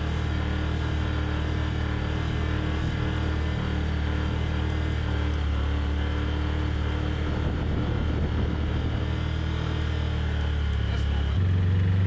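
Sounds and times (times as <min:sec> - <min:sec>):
utility vehicle engine droning: 0:00.0 - 0:12.0.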